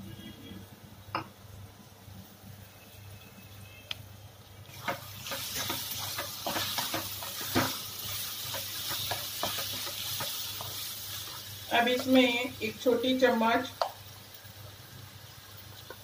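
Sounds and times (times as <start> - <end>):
food sizzling: 1.0 - 16.0.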